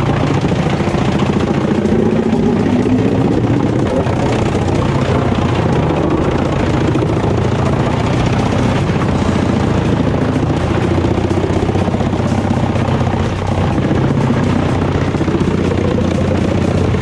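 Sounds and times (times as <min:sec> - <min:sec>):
heavy machine engine droning: 0:00.0 - 0:17.0.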